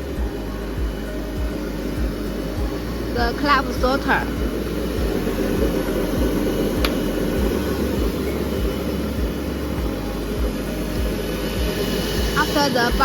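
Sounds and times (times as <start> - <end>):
low mechanical knocks: 0.0 - 12.4
machine humming: 0.0 - 13.0.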